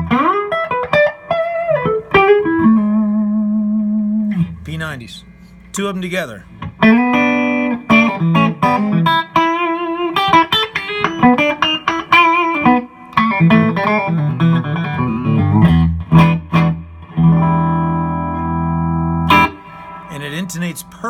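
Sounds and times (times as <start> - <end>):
clean electric guitar playing: 0.0 - 21.0.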